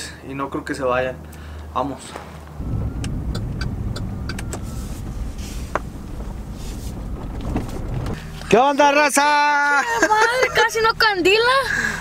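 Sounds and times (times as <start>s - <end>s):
vehicle engine rumbling: 1.2s - 12.0s.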